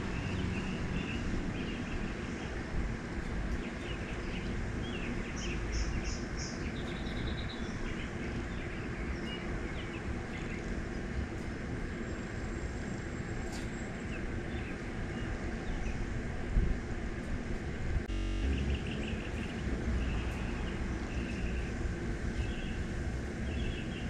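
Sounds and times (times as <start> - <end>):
small birds chirping: 0.0 - 12.4, 13.4 - 16.2, 18.1 - 24.0
outdoor background rumble: 0.0 - 24.0.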